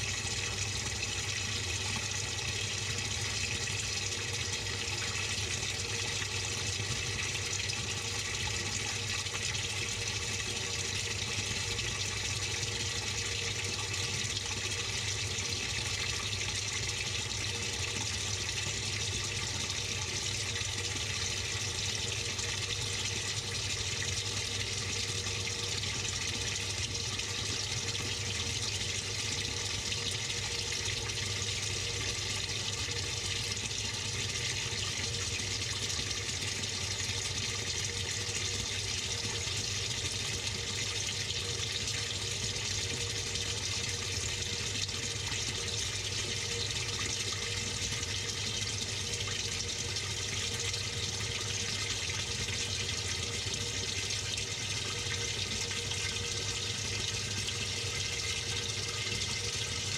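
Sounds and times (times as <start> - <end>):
water running in washing machine: 0.0 - 59.9.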